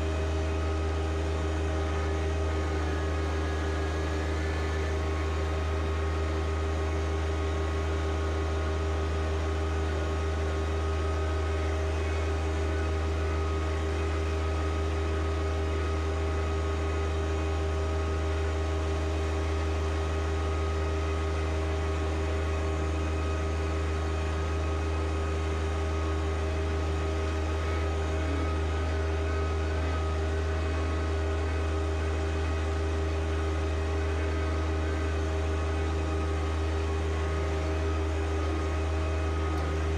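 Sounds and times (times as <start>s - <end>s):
mechanical hum: 0.0s - 39.9s.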